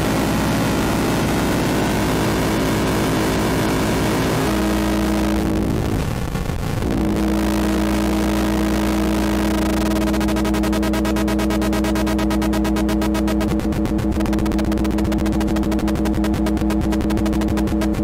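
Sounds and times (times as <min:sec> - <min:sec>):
synthesizer drone: 0:00.0 - 0:18.0.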